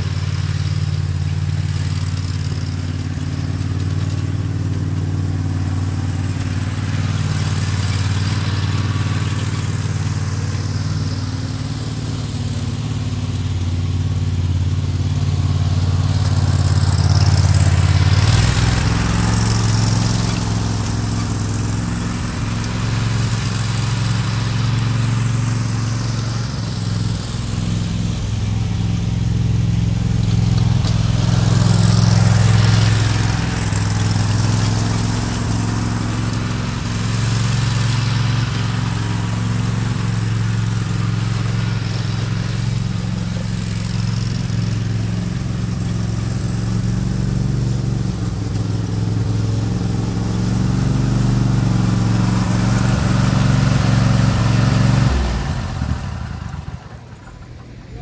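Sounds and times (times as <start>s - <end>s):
lawn mower engines cutting grass: 0.0s - 58.0s.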